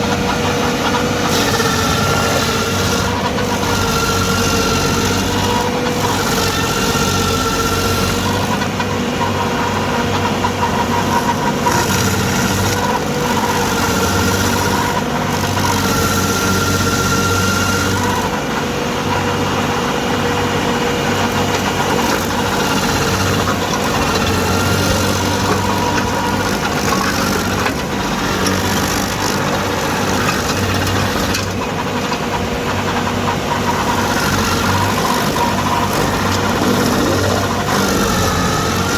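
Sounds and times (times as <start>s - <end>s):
cutting wheel milling wood: 0.0s - 38.9s
stump grinder engine under load: 0.0s - 38.9s.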